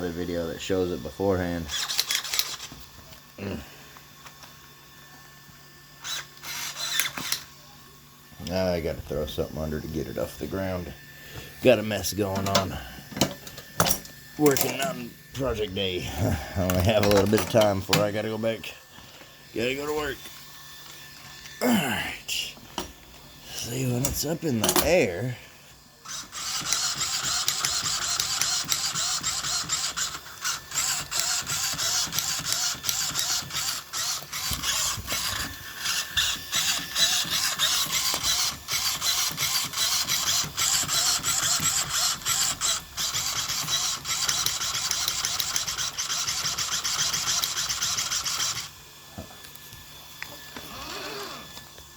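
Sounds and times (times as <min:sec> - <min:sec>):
electric motor whirring: 0:00.0 - 0:51.9.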